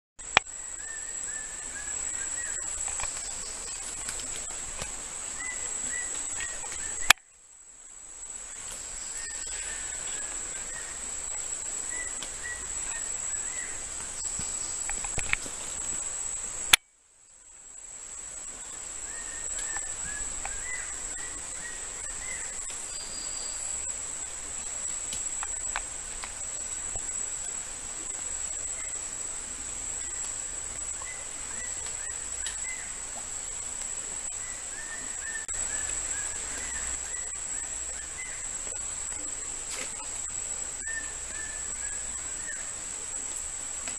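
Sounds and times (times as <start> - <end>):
high-pitched insect trill: 0.2 - 43.9.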